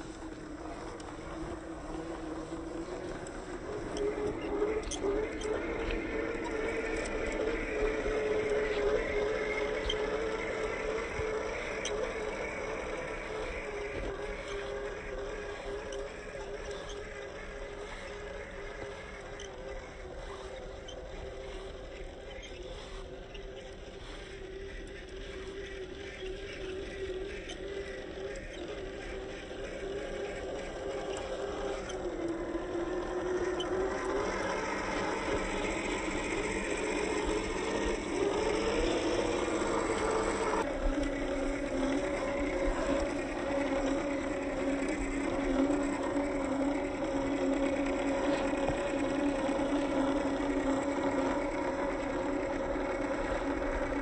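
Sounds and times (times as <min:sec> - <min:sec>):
toy car motor whining: 0:00.0 - 0:54.0.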